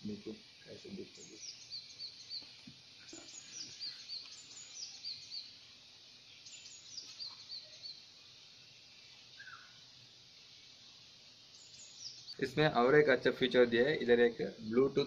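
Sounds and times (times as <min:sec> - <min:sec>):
faint background hiss: 0:00.0 - 0:15.0
songbird singing: 0:00.0 - 0:15.0.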